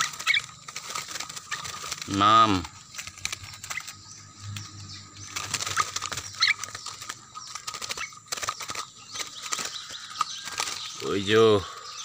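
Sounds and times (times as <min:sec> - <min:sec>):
birds fluttering in cage: 0:00.0 - 0:12.0.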